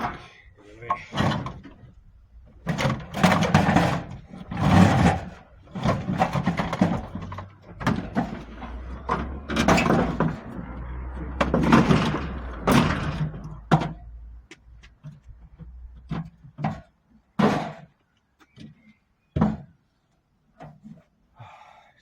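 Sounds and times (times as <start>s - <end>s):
scrap metal clunks and bangs: 0.0s - 19.8s.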